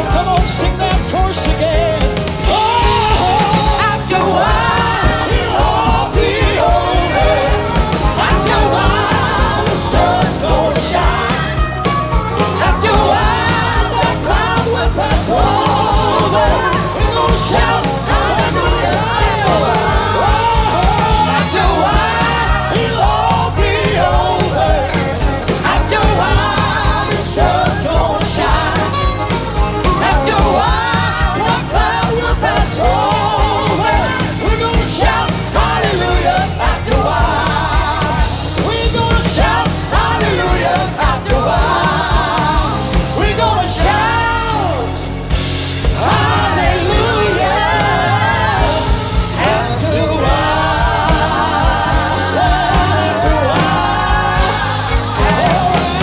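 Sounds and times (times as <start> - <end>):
band playing: 0.0 - 56.0
singers with vibrato: 0.0 - 56.0.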